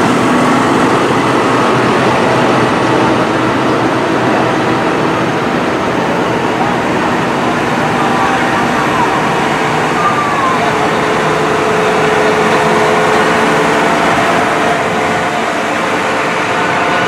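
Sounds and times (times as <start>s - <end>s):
steady whine: 0.0s - 17.0s.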